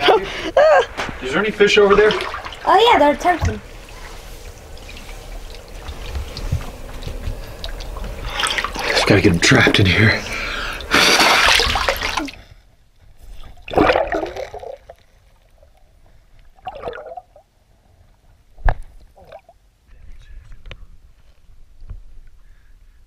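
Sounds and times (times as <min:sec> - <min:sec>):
underwater sloshing and gurgling: 0:01.1 - 0:19.6.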